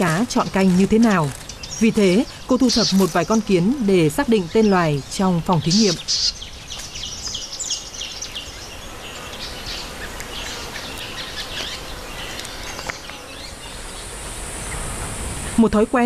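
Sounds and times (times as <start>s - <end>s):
birds chirping: 0.0s - 16.0s
insects buzzing: 0.0s - 16.0s.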